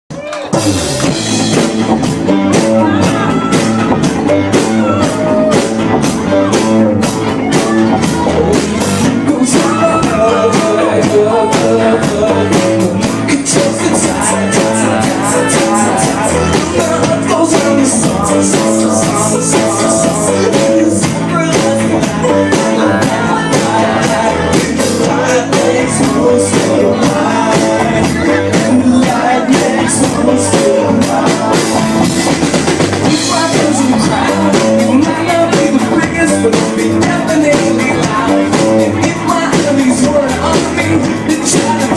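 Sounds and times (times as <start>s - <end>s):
bass: 0.0s - 41.9s
drum beat: 0.1s - 41.9s
keyboards: 0.1s - 41.9s
person singing: 0.1s - 41.9s.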